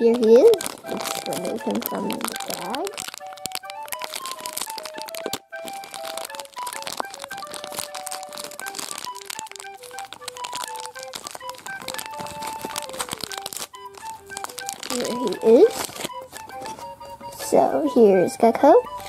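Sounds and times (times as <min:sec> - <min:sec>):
plastic bag crinkling: 0:00.0 - 0:17.5
simple background music tune: 0:00.0 - 0:19.0.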